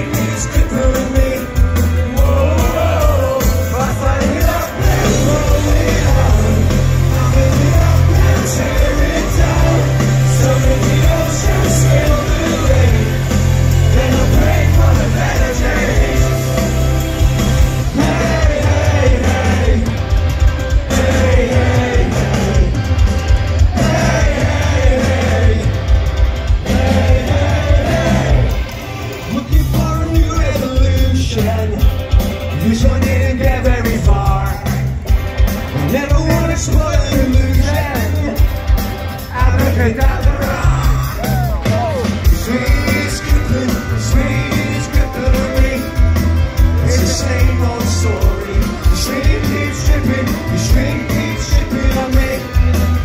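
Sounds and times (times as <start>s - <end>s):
man singing lead vocal: 0.0s - 23.0s, 23.6s - 26.0s, 26.6s - 35.0s, 35.8s - 53.0s
rock band playing live: 0.0s - 53.0s.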